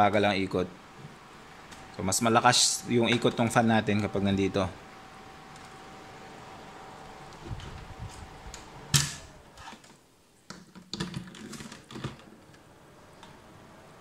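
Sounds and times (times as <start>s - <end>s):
electric fan hum: 0.0s - 14.0s.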